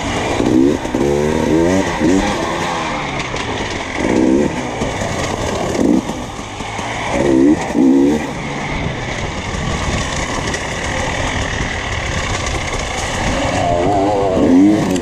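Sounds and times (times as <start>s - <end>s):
motorcycle engine revving: 0.0s - 15.0s
steady rushing noise: 0.0s - 15.0s.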